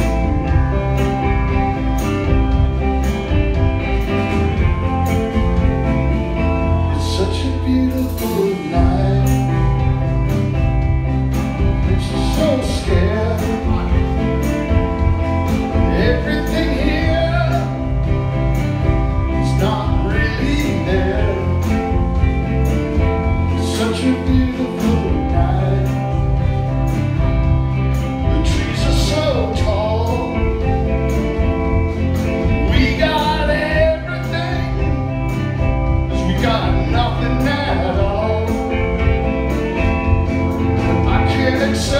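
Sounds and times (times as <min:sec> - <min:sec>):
drum kit beat: 0:00.0 - 0:41.9
electric bass: 0:00.0 - 0:41.9
electric guitar: 0:00.0 - 0:41.9.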